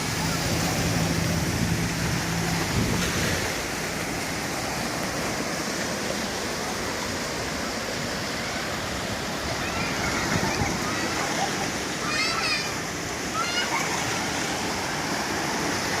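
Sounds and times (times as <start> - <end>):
surf washing onto beach: 0.0 - 16.0.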